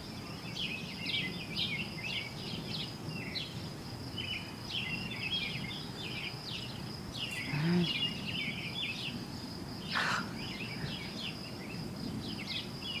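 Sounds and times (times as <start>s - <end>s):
birds chirping: 0.0s - 13.0s
high insect tone: 0.0s - 13.0s.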